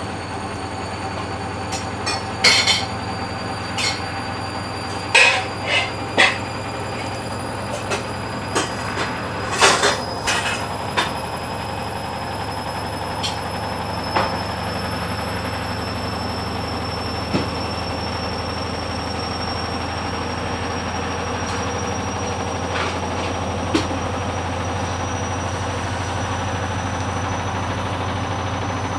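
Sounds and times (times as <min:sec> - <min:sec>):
washing machine spinning: 0:00.0 - 0:28.9.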